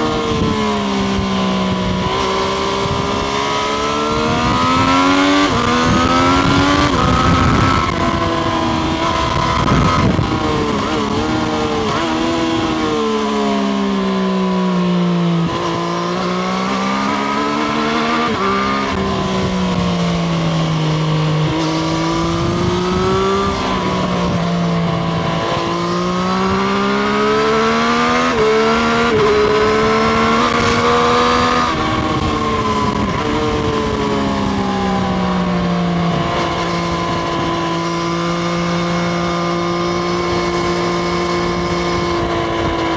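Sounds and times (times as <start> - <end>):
motorcycle engine while riding: 0.0 - 42.9.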